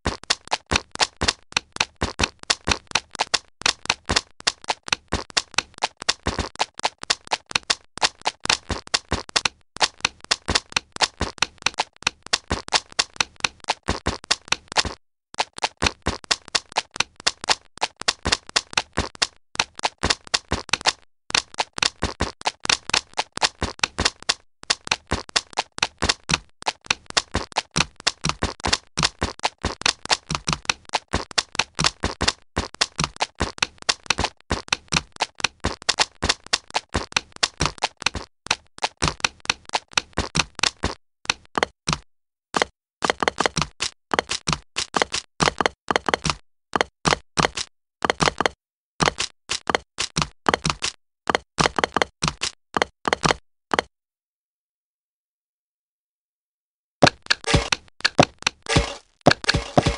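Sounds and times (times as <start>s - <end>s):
footsteps running: 0.0s - 42.0s, 42.6s - 53.9s, 57.0s - 59.9s.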